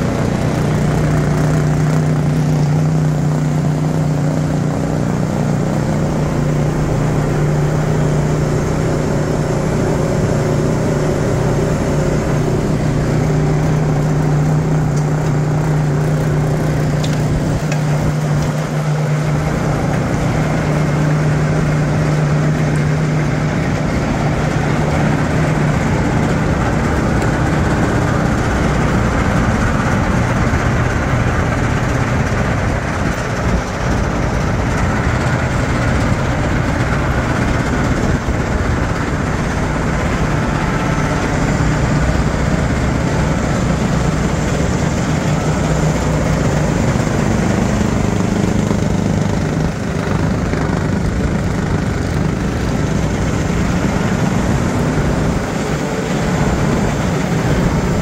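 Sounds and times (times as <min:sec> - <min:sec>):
diesel engine running: 0:00.0 - 0:58.0
low drone: 0:00.0 - 0:58.0.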